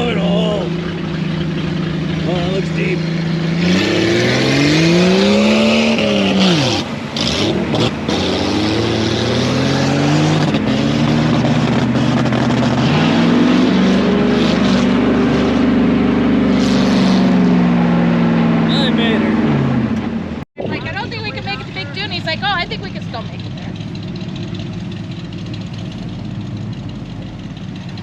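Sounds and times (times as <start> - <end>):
vehicle engine revving: 0.0 - 28.0.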